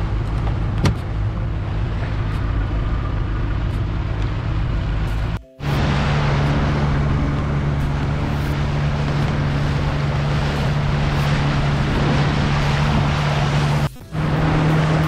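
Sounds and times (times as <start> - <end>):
outboard motor droning: 0.0 - 15.0
water rushing: 0.0 - 15.0.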